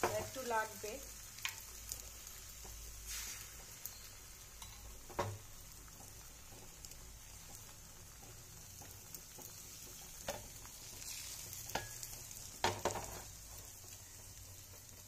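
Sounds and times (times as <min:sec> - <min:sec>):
egg batter sizzling in oil: 0:00.0 - 0:15.0.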